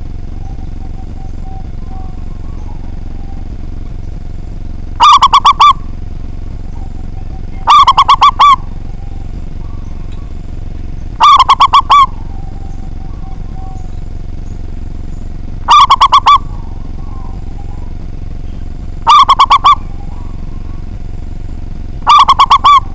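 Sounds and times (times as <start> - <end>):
dove cooing: 0.0 - 22.9
steady background hiss: 0.0 - 22.9.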